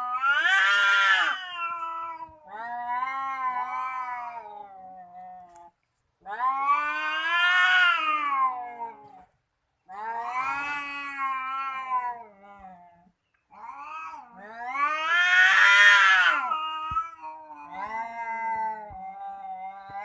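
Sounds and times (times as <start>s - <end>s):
cats yowling: 0.0s - 20.0s.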